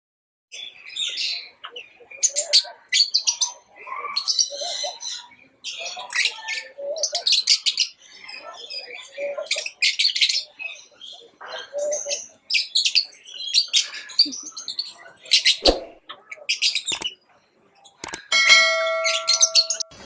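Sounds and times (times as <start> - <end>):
birds chirping: 0.5 - 20.0.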